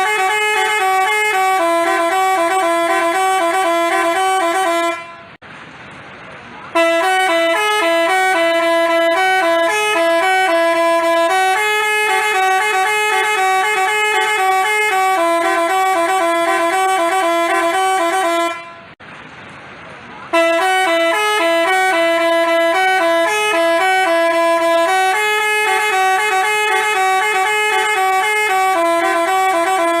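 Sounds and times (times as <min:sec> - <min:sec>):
bus horn playing melody: 0:00.0 - 0:05.4, 0:06.7 - 0:19.0, 0:20.3 - 0:30.0.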